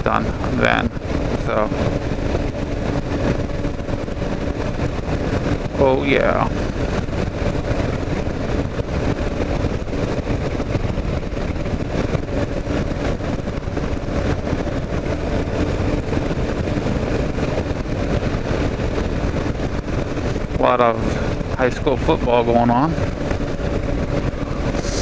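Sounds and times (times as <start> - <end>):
motorcycle engine running: 0.0 - 25.0
wind and road rush: 0.0 - 25.0.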